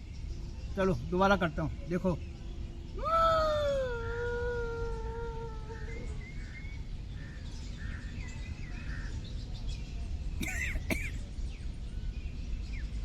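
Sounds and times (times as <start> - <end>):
outdoor background hum: 0.0 - 13.0
small birds chirping: 0.0 - 13.0.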